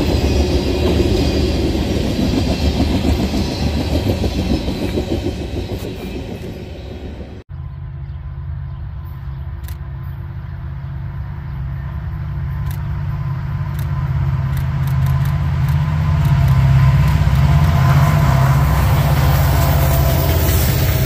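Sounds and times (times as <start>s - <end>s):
locomotive engine rumble: 0.0s - 21.0s.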